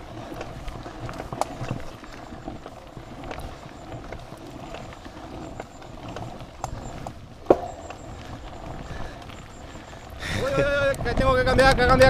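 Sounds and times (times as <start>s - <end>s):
bike chain rattles and clicks: 0.0s - 12.0s
bike tyres rolling on dirt: 0.0s - 12.0s.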